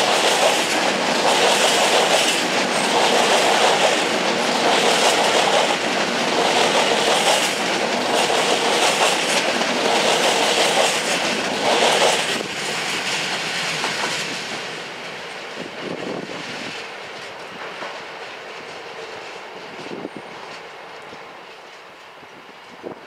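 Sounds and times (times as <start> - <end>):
train wheel clicks: 0.0 - 22.2
rushing rumble of train: 0.0 - 23.0.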